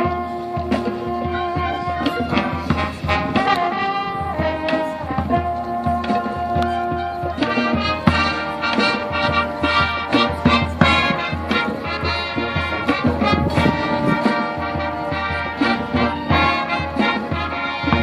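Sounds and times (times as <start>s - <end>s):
brass section holding chords: 0.0s - 18.0s
drumline beat: 0.0s - 18.0s.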